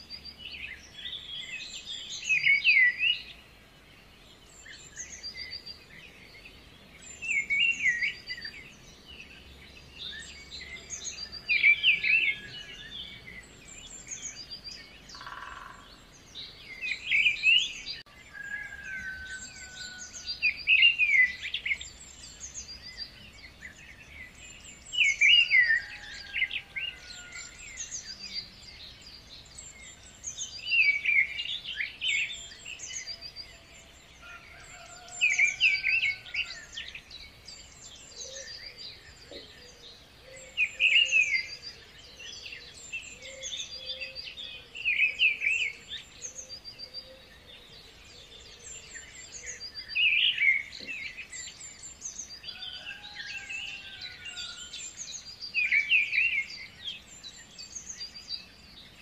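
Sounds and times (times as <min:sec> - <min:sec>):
birds chirping song: 0:00.0 - 0:59.0.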